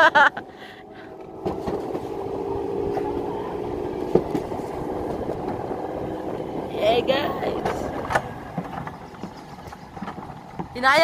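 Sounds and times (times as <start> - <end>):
wheels whirring on rail: 0.0 - 11.0.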